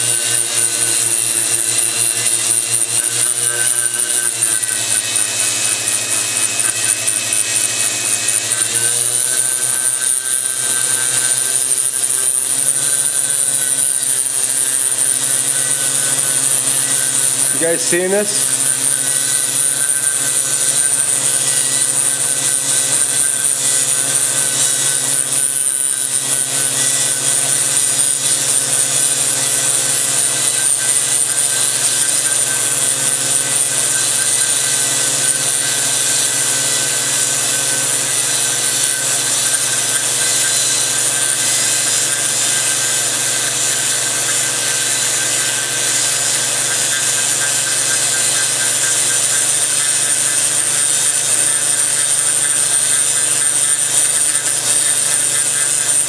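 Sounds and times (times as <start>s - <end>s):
high-pitched grinder whine: 0.0s - 56.0s
motor drone: 0.0s - 56.0s.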